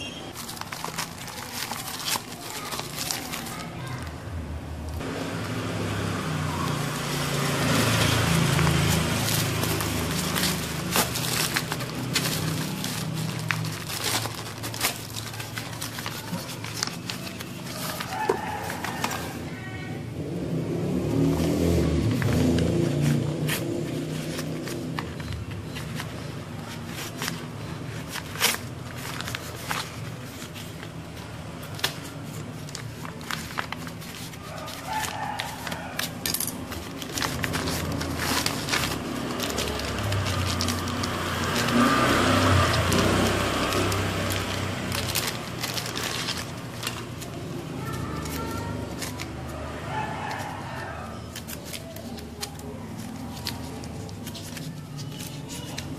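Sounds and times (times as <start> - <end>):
paper wrapping crinkling: 0.0 - 4.2, 6.0 - 19.9, 21.1 - 55.9.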